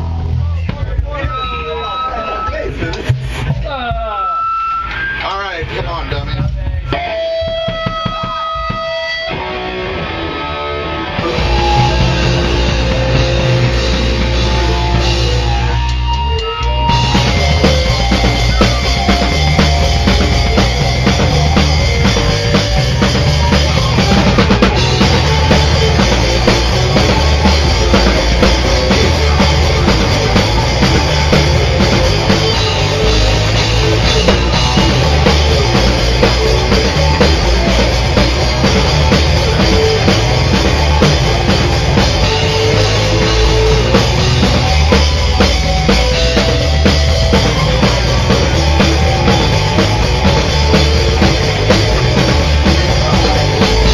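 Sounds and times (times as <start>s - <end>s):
drum kit: 0.0s - 53.9s
live rock band: 0.0s - 53.9s.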